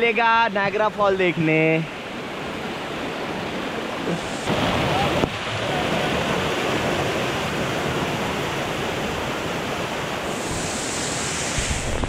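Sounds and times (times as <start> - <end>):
waterfall rushing over rocks: 2.0 - 12.0.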